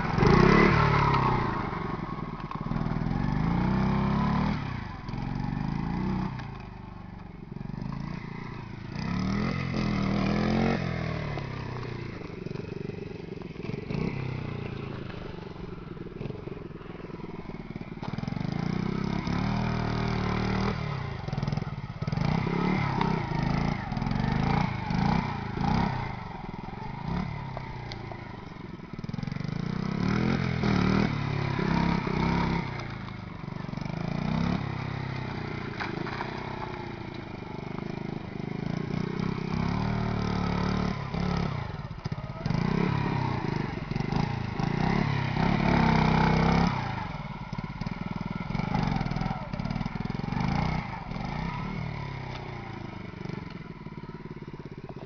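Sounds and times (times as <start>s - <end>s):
minibike engine revving: 0.0s - 55.0s.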